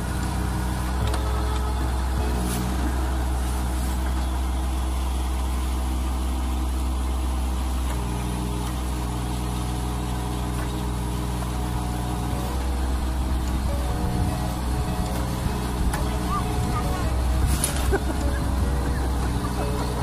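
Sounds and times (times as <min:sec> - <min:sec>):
backhoe digging: 0:00.0 - 0:20.0
tractor diesel engine running: 0:00.0 - 0:20.0.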